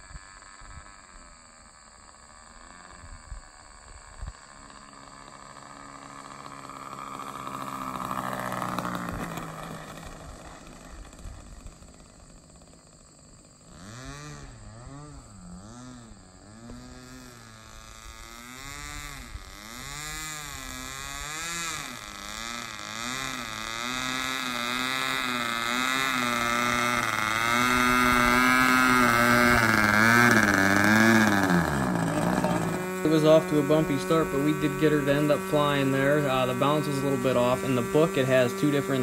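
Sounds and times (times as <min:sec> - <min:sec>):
model airplane engine running: 0:00.0 - 0:39.0.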